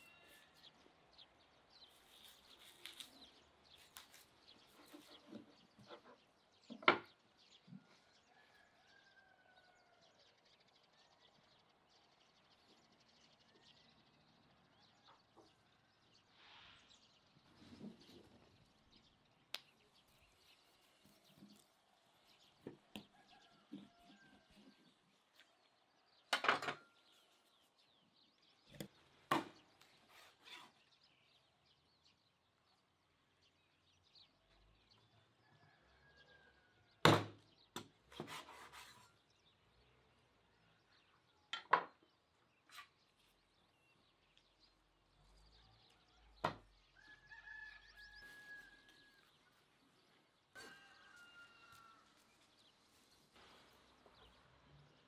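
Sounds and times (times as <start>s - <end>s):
faint birdsong: 0.0s - 55.0s.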